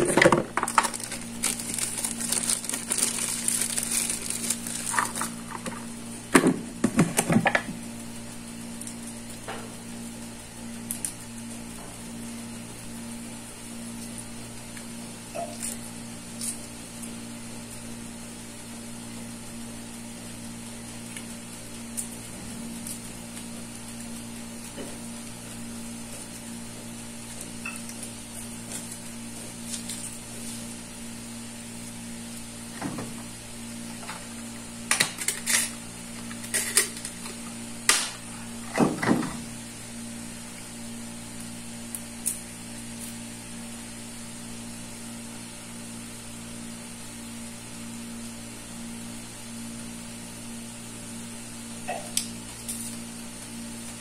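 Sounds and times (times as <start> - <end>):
steady low hum: 0.0 - 54.0
faint frying sizzle: 0.6 - 38.6, 39.4 - 54.0.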